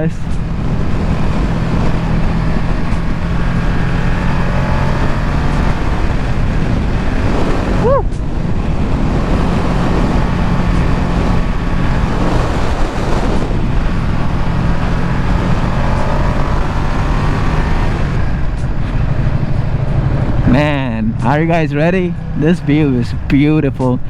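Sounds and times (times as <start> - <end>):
motorcycle engine cruising: 0.0 - 24.0
rushing wind noise: 0.0 - 24.0.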